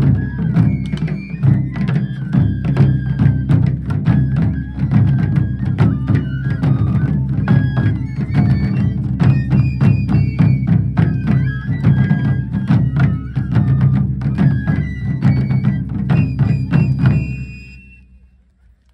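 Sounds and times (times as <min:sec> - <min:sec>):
deep taiko drum beats: 0:00.0 - 0:17.7.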